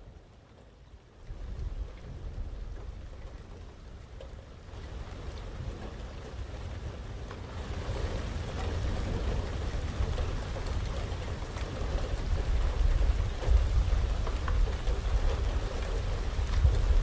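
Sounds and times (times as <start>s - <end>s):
heavy rain pattering: 0.0s - 17.0s.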